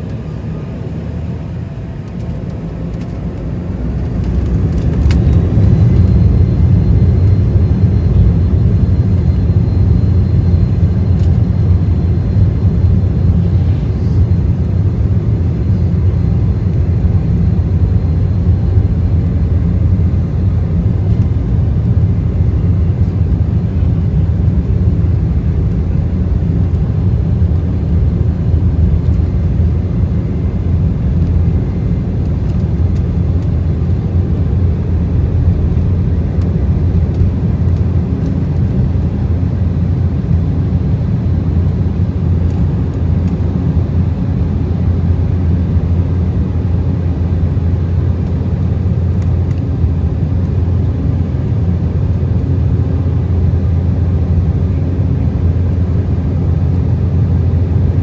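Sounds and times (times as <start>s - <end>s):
high engine whine: 0.0s - 58.0s
jet engines rumbling in cabin: 0.0s - 58.0s.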